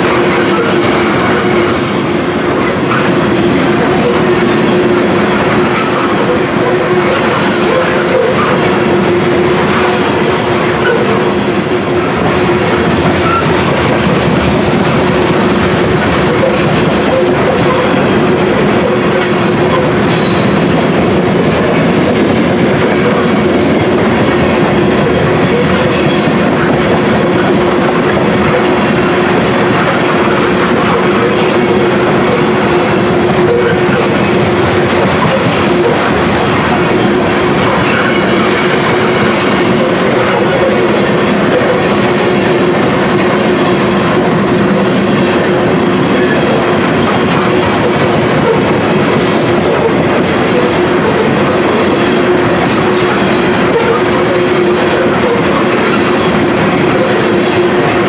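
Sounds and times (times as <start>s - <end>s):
clickety-clack over rail joints: 0.0s - 58.0s
steel wheels rumbling on rail: 0.0s - 58.0s.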